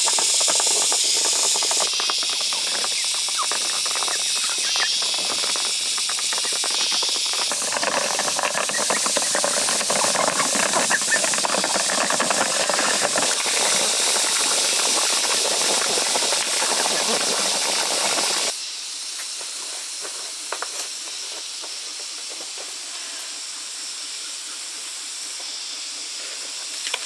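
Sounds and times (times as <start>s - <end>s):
crackly hissing noise: 0.0s - 27.0s.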